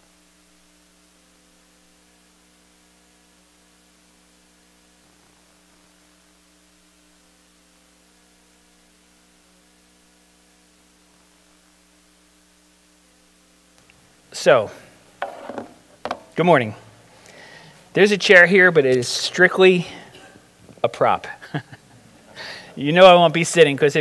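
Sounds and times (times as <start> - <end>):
faint electrical mains hum: 0.0 - 24.0.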